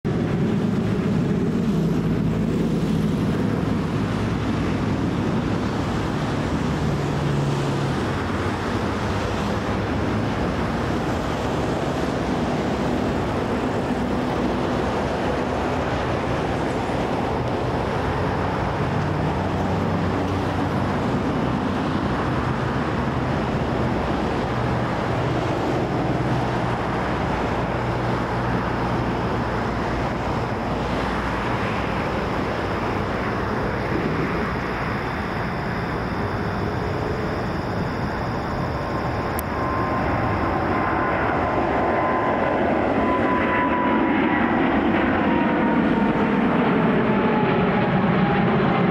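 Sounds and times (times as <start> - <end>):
jet engine roar: 0.0 - 48.9
faint whine: 0.1 - 48.9.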